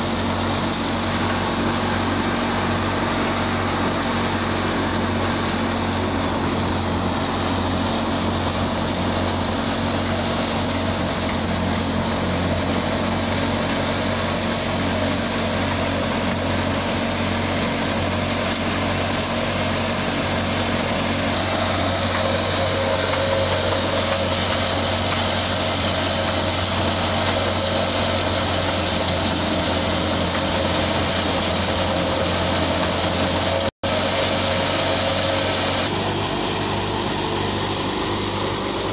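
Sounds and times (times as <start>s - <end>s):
tractor driving thresher drone: 0.0s - 38.9s.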